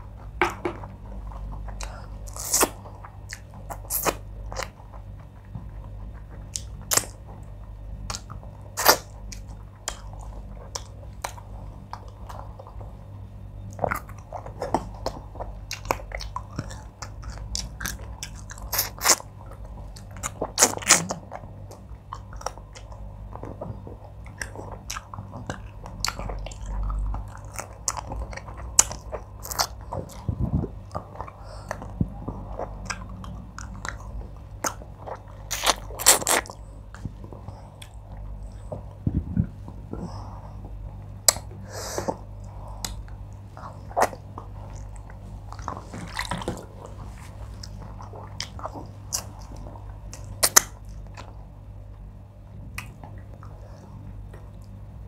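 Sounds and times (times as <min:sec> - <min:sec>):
chewing and mouth sounds: 0:00.1 - 0:13.0, 0:13.6 - 0:52.0, 0:52.7 - 0:54.8.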